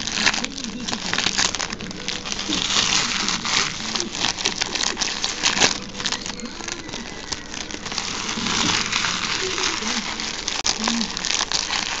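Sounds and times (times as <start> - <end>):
foil wrappers crinkling and tearing: 0.0 - 12.0.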